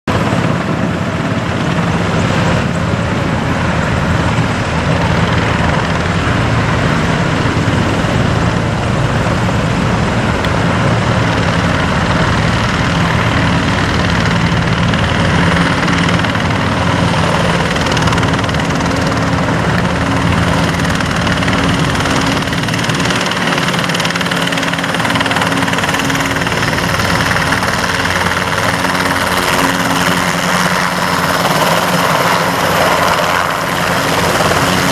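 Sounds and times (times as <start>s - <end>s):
helicopter rotors thrumming: 0.1s - 34.9s
turbine engine noise: 0.1s - 34.9s.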